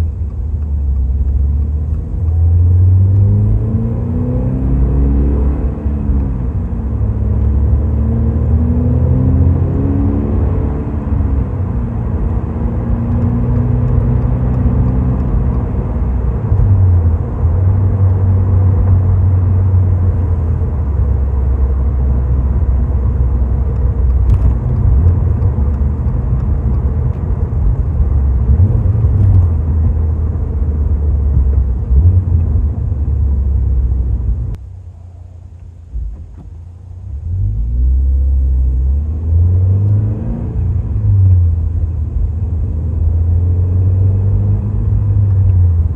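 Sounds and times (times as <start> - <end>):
car exhaust note while driving: 0.0 - 45.9.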